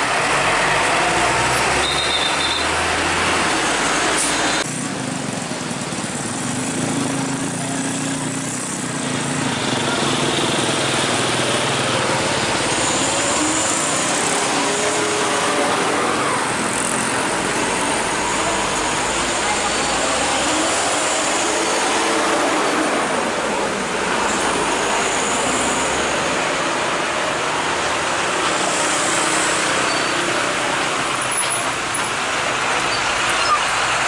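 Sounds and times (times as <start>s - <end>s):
truck diesel engine passing: 0.0s - 34.0s
trucks and motorbikes moving off: 0.0s - 34.0s.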